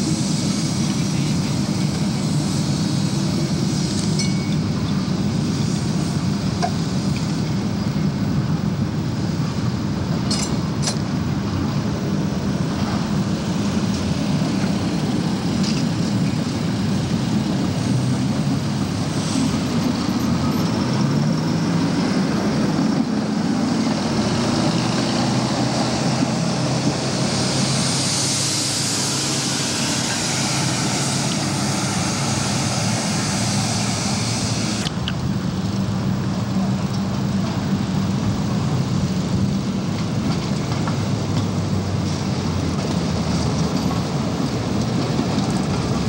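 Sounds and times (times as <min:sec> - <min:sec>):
road traffic rumble: 0:00.0 - 0:46.0
traffic hiss: 0:00.0 - 0:46.0.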